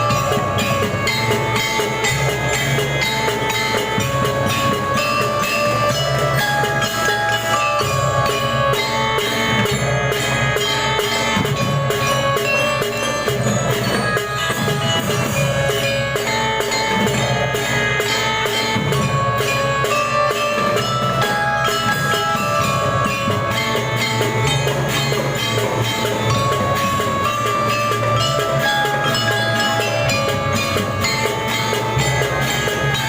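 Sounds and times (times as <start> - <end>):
bell-lyra melody: 0.0 - 33.0.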